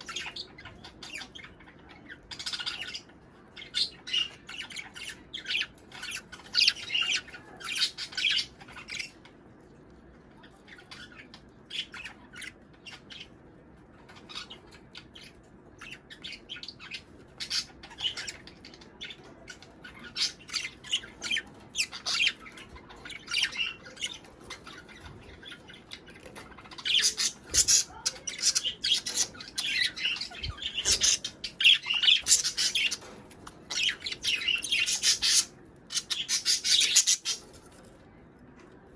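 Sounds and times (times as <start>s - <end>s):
budgerigars chattering: 0.0s - 9.3s, 14.1s - 37.6s.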